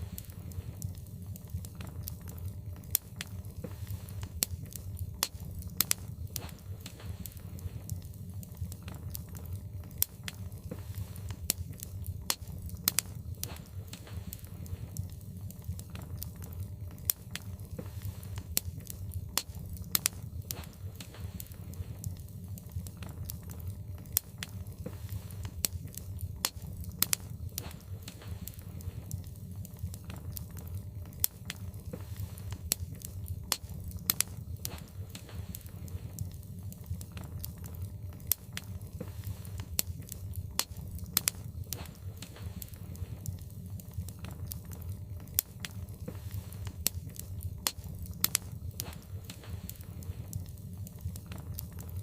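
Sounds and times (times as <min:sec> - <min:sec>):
logs crackling and popping in fire: 0:00.0 - 0:52.0
low fire rumble: 0:00.0 - 0:52.0.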